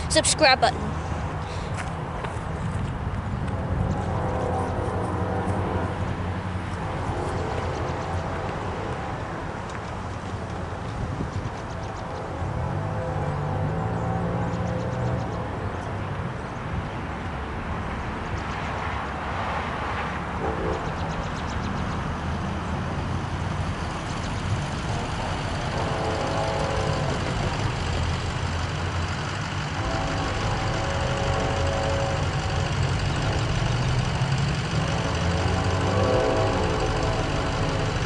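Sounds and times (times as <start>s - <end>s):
low engine rumble: 0.0s - 18.8s, 20.3s - 38.0s
cars passing: 0.0s - 38.0s.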